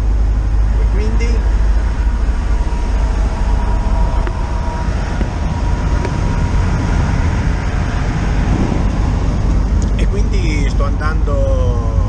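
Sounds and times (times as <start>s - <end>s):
van engine and road drone: 0.0s - 12.0s.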